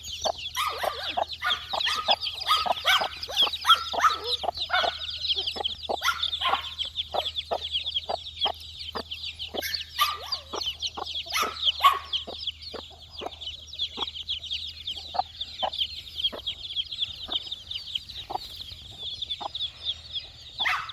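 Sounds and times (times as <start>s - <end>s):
chicks peeping: 0.0s - 20.9s
clucking calls: 0.0s - 20.9s.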